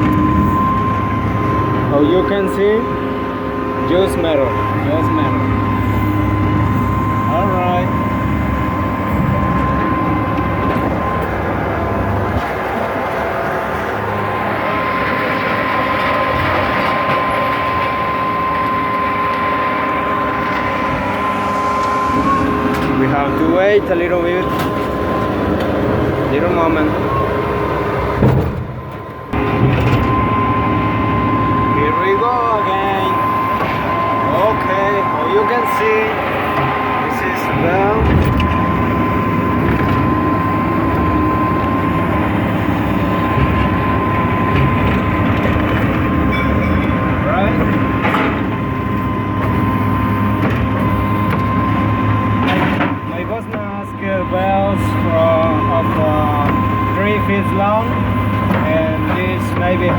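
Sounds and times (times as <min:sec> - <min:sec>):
baler machine drone: 0:00.0 - 0:59.9
high whine: 0:00.0 - 0:59.9
hydraulic power unit running: 0:00.0 - 0:59.9.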